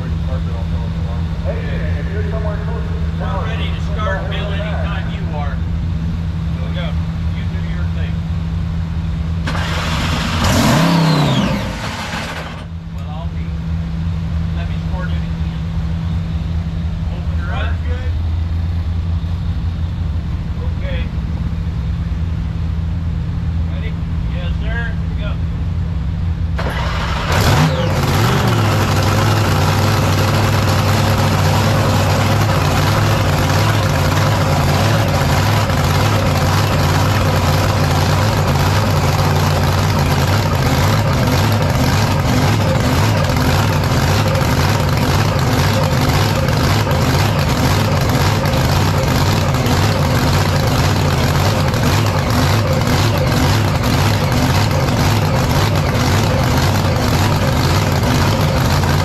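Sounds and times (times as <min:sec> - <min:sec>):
racing engine revving and idling: 0:00.0 - 0:59.0.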